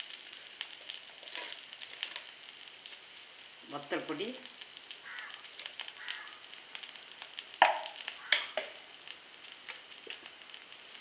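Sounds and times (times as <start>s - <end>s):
crackles and sharp clicks: 0.0s - 3.5s, 4.4s - 11.0s
hot oil sizzling with spices: 0.0s - 11.0s.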